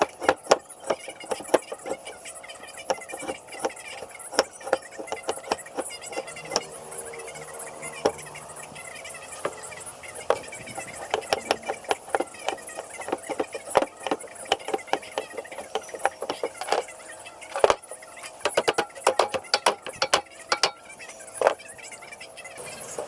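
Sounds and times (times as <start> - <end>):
wooden pieces clicking and knocking: 0.0 - 21.7.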